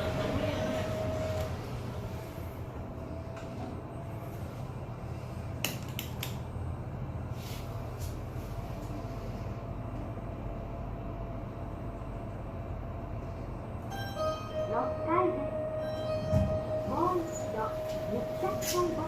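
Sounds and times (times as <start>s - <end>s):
elevator hum: 0.0s - 19.0s.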